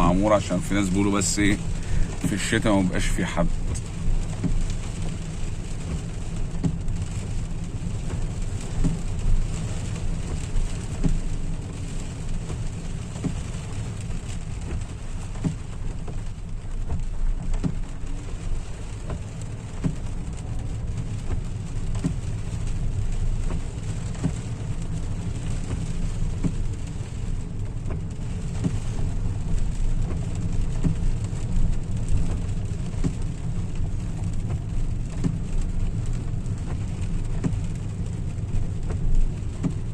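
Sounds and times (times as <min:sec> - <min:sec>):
car driving rumble: 0:00.0 - 0:39.9
rain pattering on car roof: 0:00.0 - 0:39.9.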